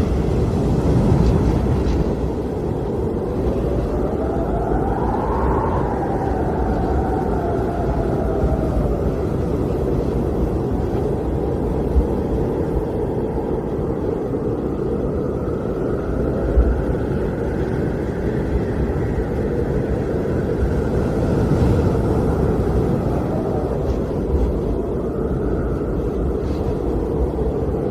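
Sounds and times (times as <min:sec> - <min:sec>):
blizzard wind blowing: 0:00.0 - 0:27.9.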